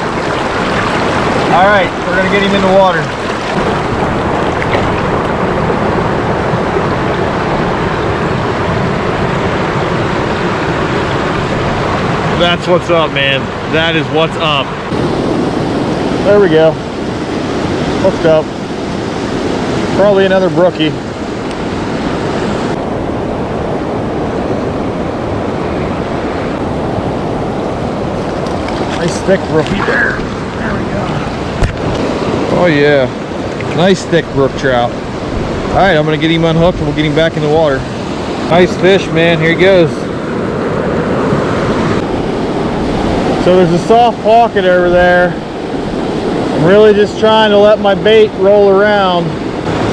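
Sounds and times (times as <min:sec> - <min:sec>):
creek water rushing: 0:00.0 - 0:49.9.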